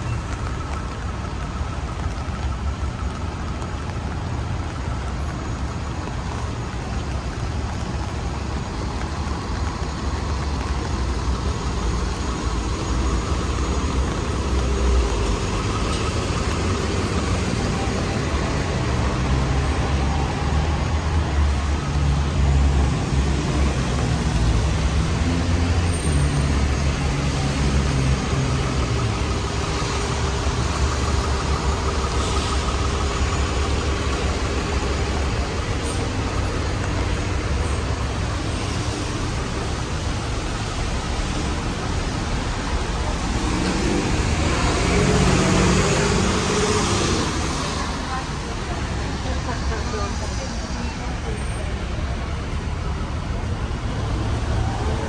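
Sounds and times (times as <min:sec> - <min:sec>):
large vehicle engine rumbling: 0:00.0 - 0:55.0
rain hiss on wet road: 0:00.0 - 0:55.0.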